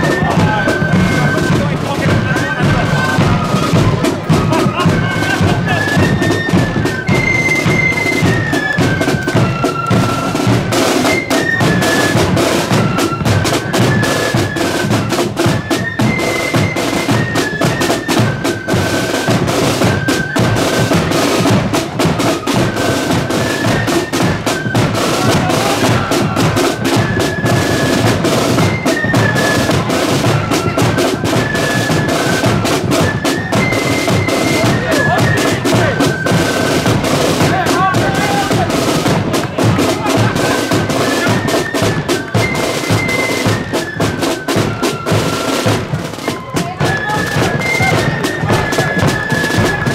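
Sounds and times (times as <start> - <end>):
flute melody: 0.0 - 49.9
snare drums: 0.0 - 49.9.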